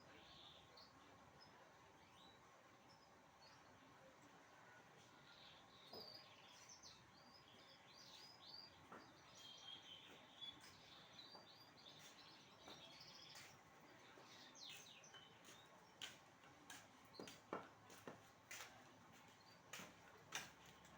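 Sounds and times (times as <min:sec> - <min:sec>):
songbirds chirping: 0:00.0 - 0:20.9.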